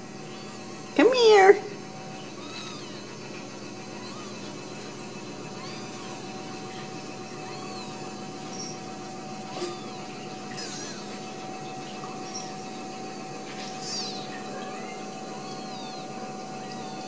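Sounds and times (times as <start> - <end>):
whirring machine hum: 0.0 - 17.0.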